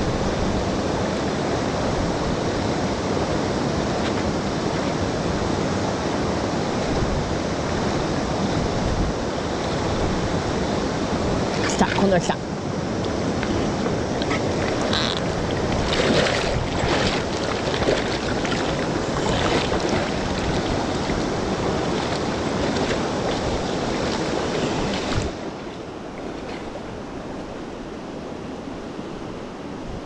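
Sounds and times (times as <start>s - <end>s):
fast-flowing river water: 0.0s - 30.0s.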